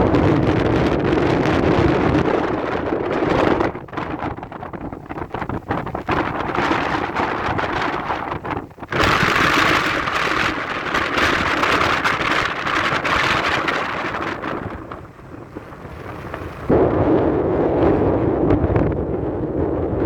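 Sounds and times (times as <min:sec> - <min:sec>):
heavy rain in strong wind: 0:00.0 - 0:20.0.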